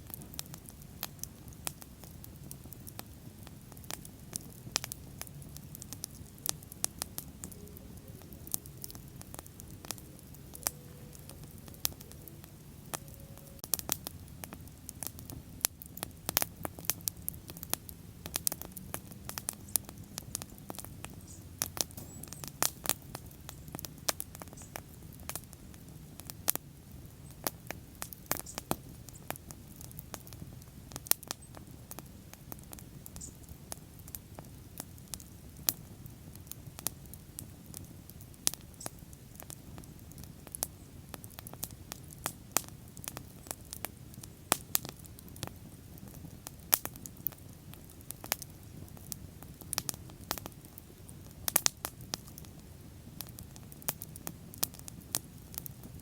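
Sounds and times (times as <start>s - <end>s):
bonfire flames burning: 0.0s - 56.0s
fire crackling and popping: 0.0s - 56.0s.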